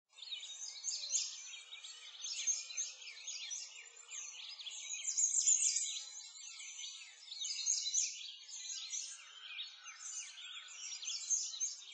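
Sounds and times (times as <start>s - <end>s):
birds chirping and singing: 0.2s - 11.9s.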